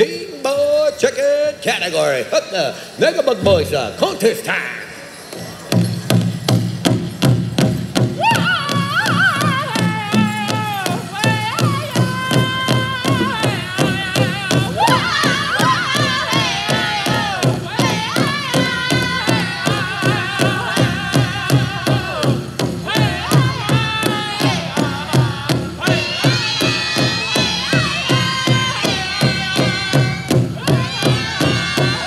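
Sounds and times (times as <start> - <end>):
big hand drum beating fast: 6.0 - 32.0.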